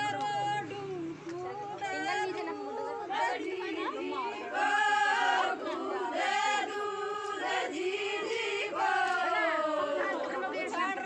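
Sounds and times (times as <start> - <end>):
crowd noise: 0.0 - 11.0
group singing folk song: 0.0 - 11.0.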